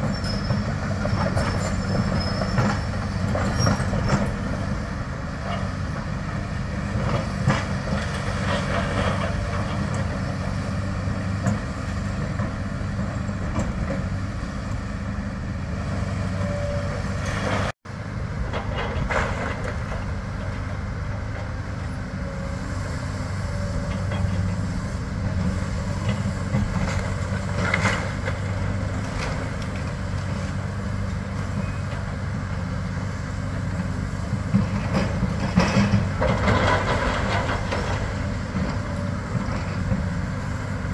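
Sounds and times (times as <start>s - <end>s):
excavator diesel engines humming: 0.0s - 40.9s.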